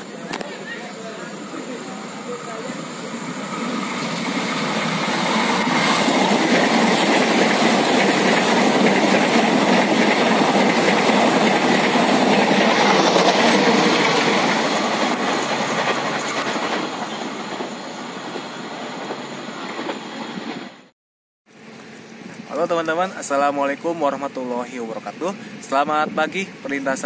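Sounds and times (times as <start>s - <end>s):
train passing on rails: 0.0s - 20.9s, 21.6s - 27.0s.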